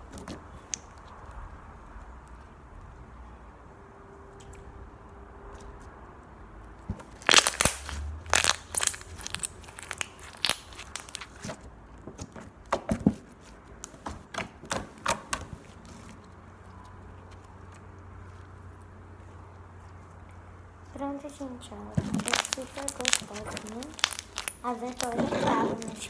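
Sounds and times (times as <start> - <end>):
sticky slime crackling and popping: 0.0 - 3.0, 6.6 - 26.0.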